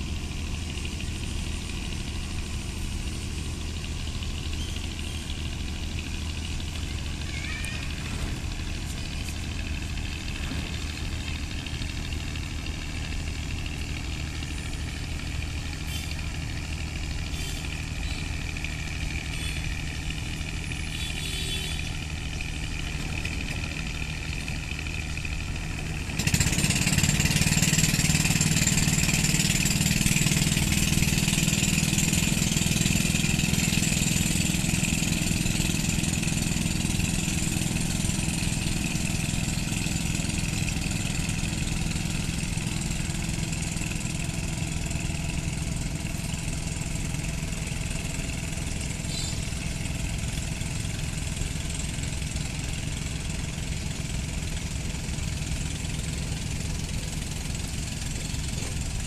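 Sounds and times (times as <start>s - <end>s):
small boat engine: 0.0s - 59.0s.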